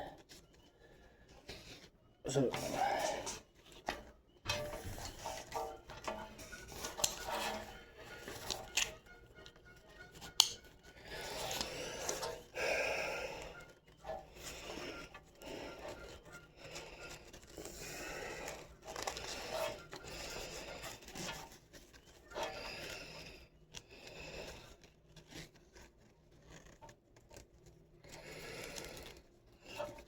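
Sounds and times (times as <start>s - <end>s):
straps and fabric rustling: 0.0s - 30.0s.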